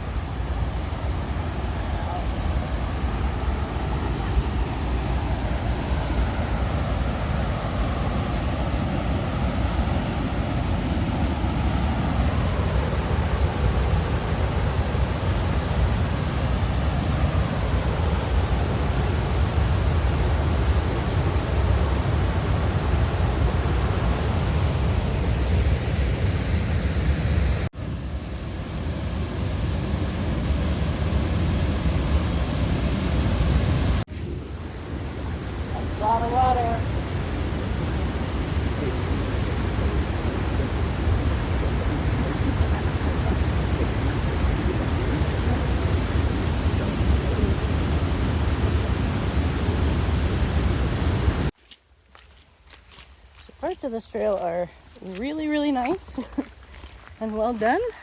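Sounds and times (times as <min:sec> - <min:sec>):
river and waterfall rushing: 0:00.0 - 0:51.5.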